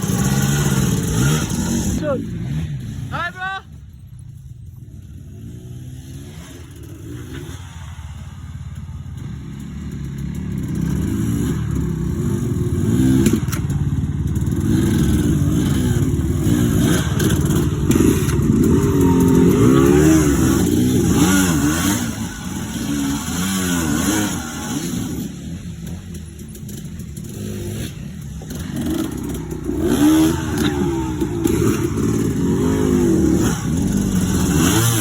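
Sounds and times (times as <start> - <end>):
dirt bike engine revving: 0.0 - 3.7, 4.8 - 35.0.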